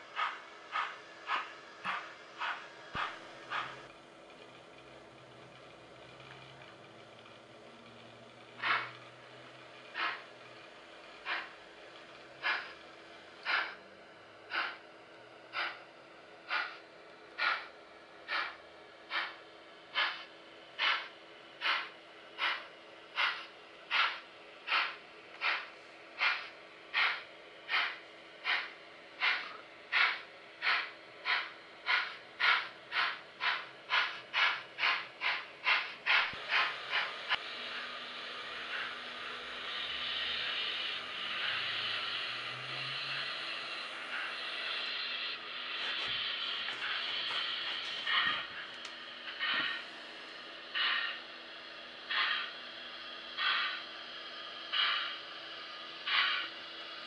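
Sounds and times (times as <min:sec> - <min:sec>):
steam locomotive chuffs: 0:00.0 - 0:57.0.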